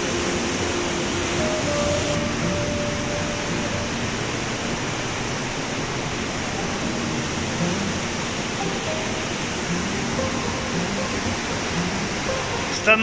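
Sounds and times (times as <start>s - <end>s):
river rushing through gorge: 0.0s - 13.0s.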